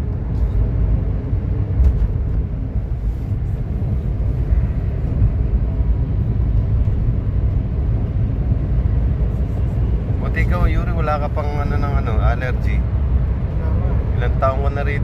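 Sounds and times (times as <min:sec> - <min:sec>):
car tyre and engine rumble: 0:00.0 - 0:15.0.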